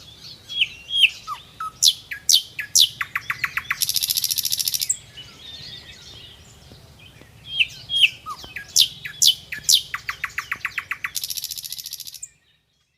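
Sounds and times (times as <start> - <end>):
birds whistling: 0.0 - 12.5
fast bird chirps: 0.6 - 6.3, 7.5 - 12.4.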